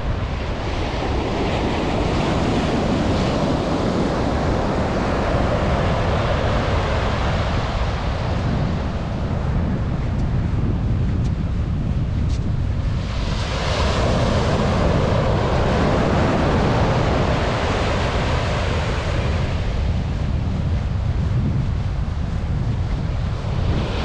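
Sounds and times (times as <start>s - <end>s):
waves breaking on sandy beach: 0.0s - 24.0s
wind buffeting microphone: 0.0s - 24.0s.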